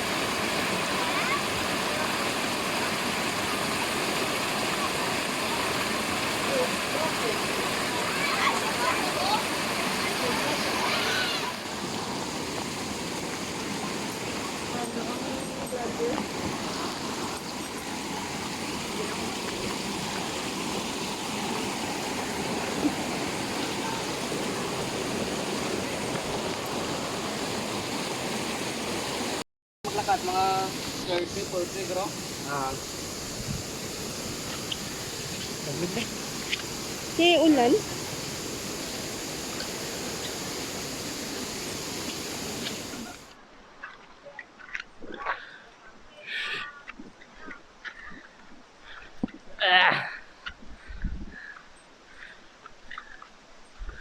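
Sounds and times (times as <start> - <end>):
stream flowing over rocks: 0.0 - 49.5
rushing water: 0.0 - 54.0.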